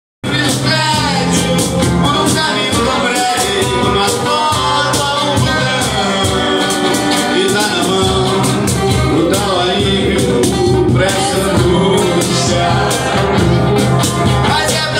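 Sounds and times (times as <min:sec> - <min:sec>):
man singing: 0:00.2 - 0:14.9
strummed acoustic guitars: 0:00.2 - 0:14.9.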